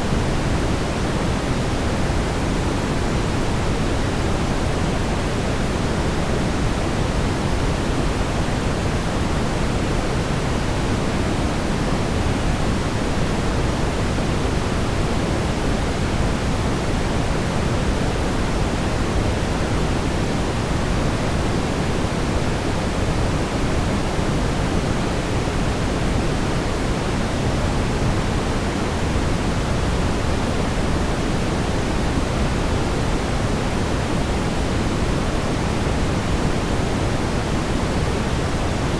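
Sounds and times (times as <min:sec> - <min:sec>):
brown noise rumbling hiss: 0:00.0 - 0:38.9.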